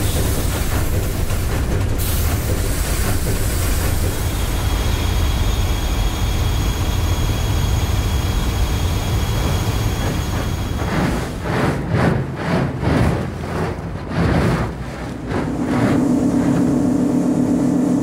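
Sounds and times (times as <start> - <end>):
ship machinery rumble: 0.0 - 18.0.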